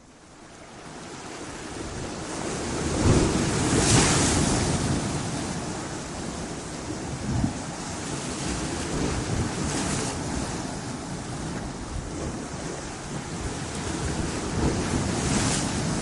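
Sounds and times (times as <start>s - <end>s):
wind rumbling on microphone: 0.9s - 16.0s
waves crashing against stone walls: 1.0s - 16.0s.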